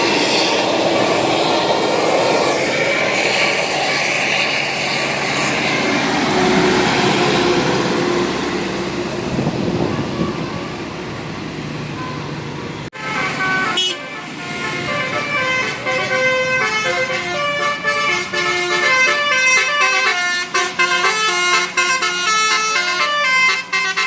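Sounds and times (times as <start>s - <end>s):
bus engine and road noise: 0.0s - 24.0s.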